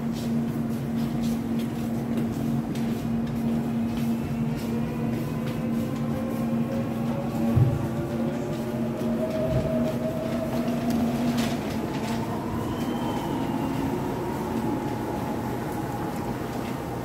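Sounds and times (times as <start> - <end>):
subway train rumble and whine: 0.0 - 17.0.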